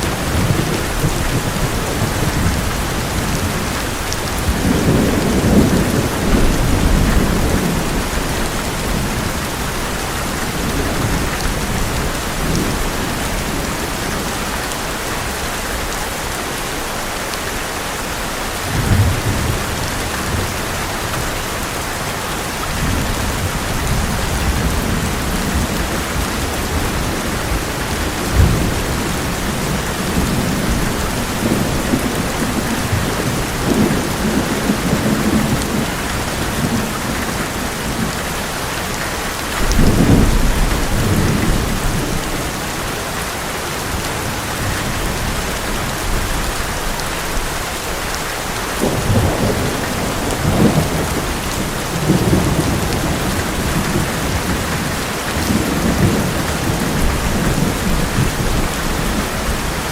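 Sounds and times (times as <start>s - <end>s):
thunder rumbling: 0.0s - 15.4s, 18.6s - 38.3s, 39.6s - 47.5s, 48.8s - 59.9s
heavy rain on metal roof: 0.0s - 59.9s.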